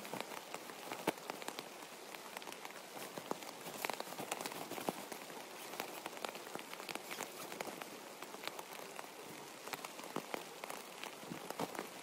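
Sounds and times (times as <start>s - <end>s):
nylon sleeping bag rustling: 0.0s - 12.0s.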